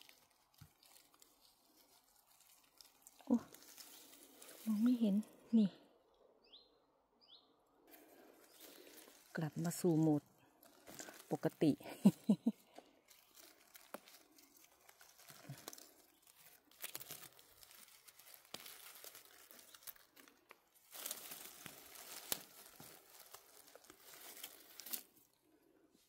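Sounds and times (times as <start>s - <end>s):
leaves and twigs crackling: 0.0s - 5.7s, 7.9s - 25.7s.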